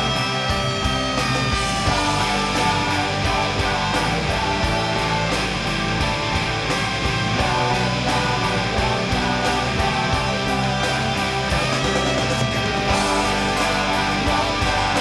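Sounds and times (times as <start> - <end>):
bass guitar: 0.0 - 15.0
distorted electric guitars: 0.0 - 15.0
steady drum beat: 0.0 - 15.0.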